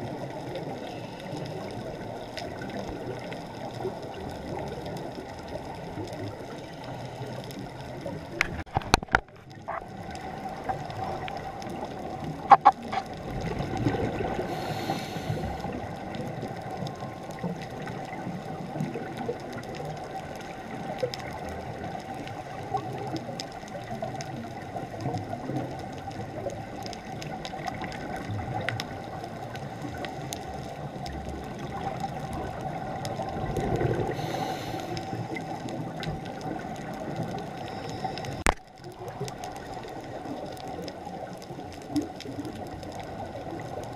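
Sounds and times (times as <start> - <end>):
faint underwater clicks: 0.0 - 43.9
underwater noise wash: 0.0 - 43.9
water rushes: 0.0 - 43.9.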